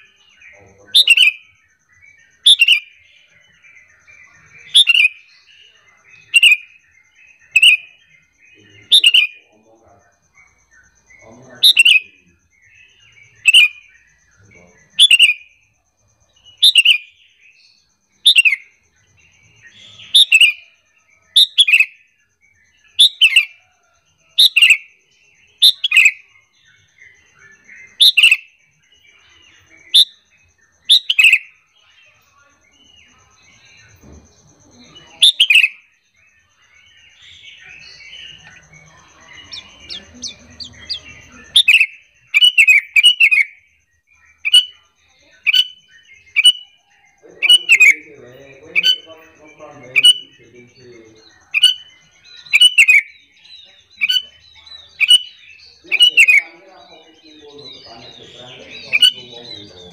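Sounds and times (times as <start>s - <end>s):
bulbul calls: 0.0s - 59.9s
faint chattering bird notes: 0.0s - 59.9s.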